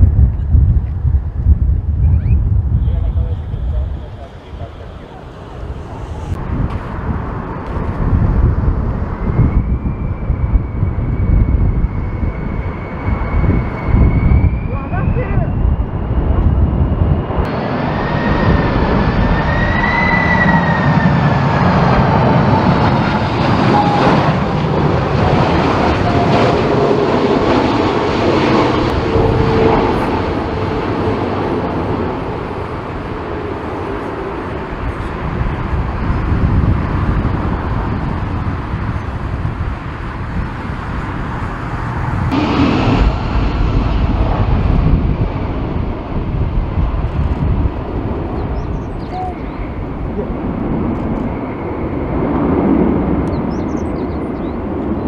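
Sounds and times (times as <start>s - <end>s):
jet engines whining: 0.0s - 55.0s
wind rumble on microphone: 0.0s - 55.0s.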